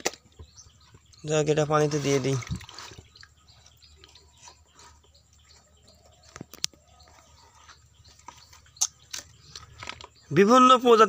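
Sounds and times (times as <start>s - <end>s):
hands moving wet fish in basin: 0.0s - 10.6s.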